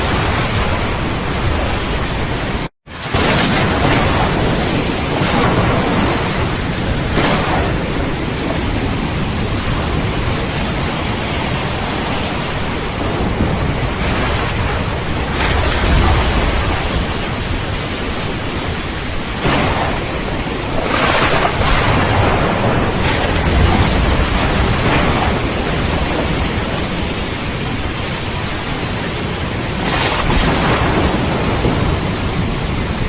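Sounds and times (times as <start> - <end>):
heavy rain: 0.0 - 33.0
low rolling thunder: 0.0 - 33.0.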